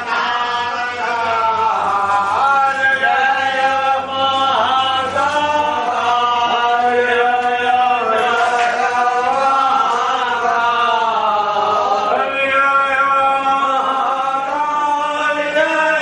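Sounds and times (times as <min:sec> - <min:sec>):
devotional chanting: 0:00.0 - 0:16.0.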